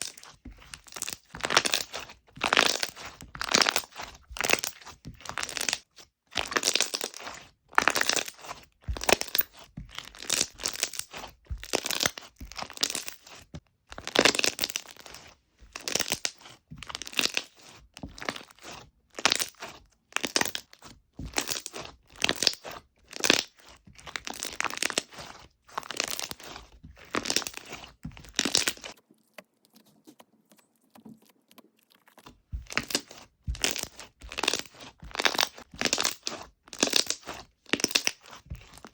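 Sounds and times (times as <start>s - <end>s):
hands squishing slime: 0.0s - 38.9s.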